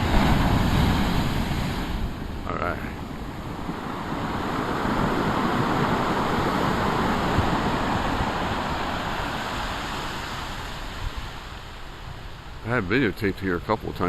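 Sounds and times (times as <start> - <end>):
wind on microphone: 0.0 - 12.5
wave breaking on shore: 0.0 - 13.0.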